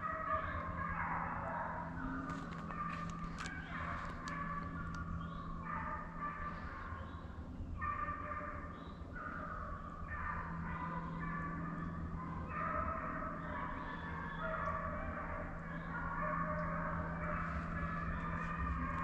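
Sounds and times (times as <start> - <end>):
hounds baying: 0.0 - 19.0.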